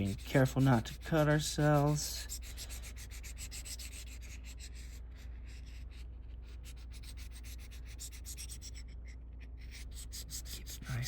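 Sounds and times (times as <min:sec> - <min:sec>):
blade rubbing on abrasive: 0:00.0 - 0:11.0.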